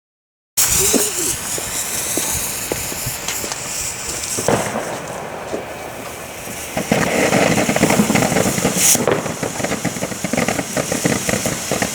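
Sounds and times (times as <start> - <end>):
firework crackles and pops: 0.6 - 11.9
firework fountain hissing: 0.6 - 11.9.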